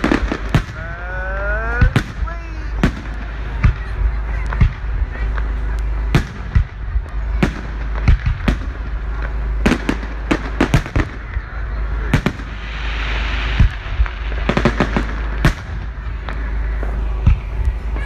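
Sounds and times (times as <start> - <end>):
fireworks bursting with bangs: 0.0 - 18.0
hissing crackle: 0.0 - 18.0.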